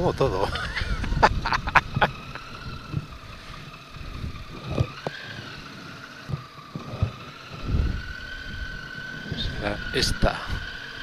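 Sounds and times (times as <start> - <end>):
motorcycle engine whine: 0.0 - 11.0.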